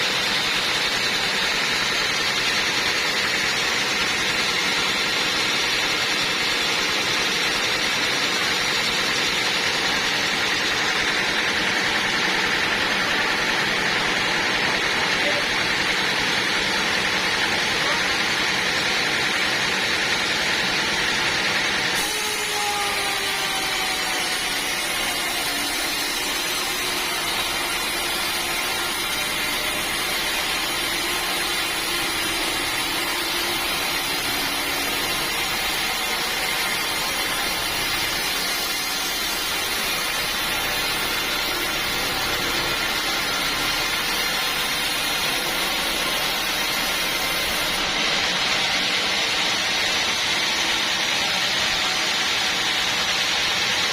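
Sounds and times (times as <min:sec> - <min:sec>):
sawmill saw cutting log: 0:00.0 - 0:53.9.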